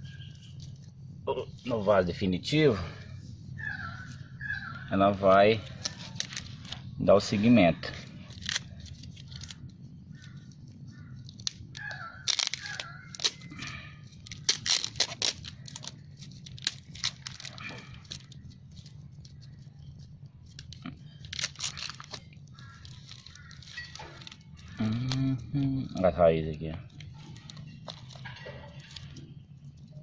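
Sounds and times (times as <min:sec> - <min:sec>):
plastic wrap and tape crinkling: 0:05.2 - 0:30.0.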